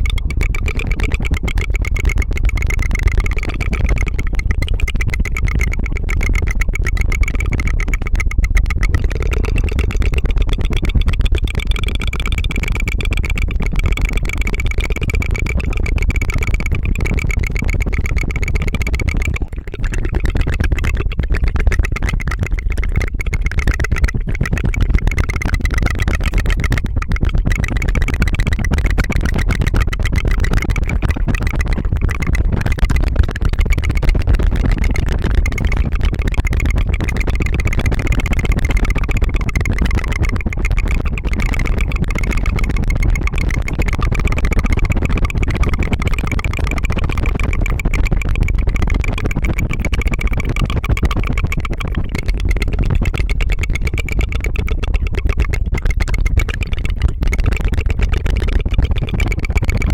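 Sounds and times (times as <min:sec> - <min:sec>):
tongue fluttering: 0:00.0 - 0:59.9.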